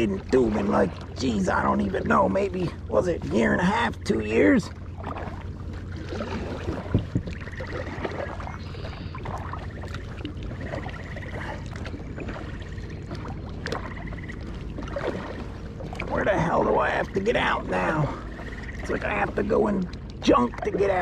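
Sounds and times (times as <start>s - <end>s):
kayak paddle splashing water: 0.0s - 21.0s.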